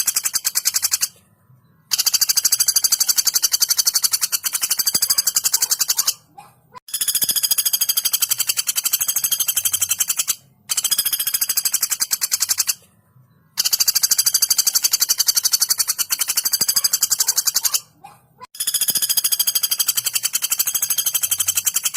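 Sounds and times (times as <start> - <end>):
bird rattling trill: 0.0 - 1.2, 1.9 - 12.8, 13.6 - 21.9.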